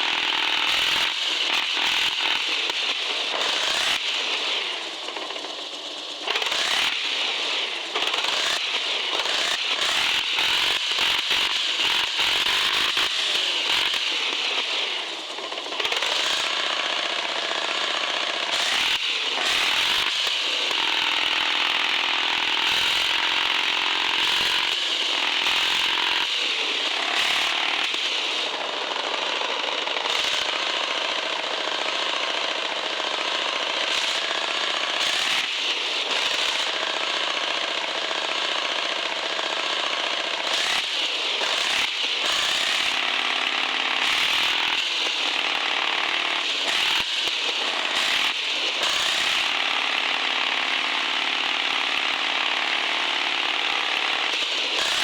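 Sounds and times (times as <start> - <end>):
toy car motor whining: 0.0 - 4.1, 5.0 - 7.1, 7.7 - 55.0.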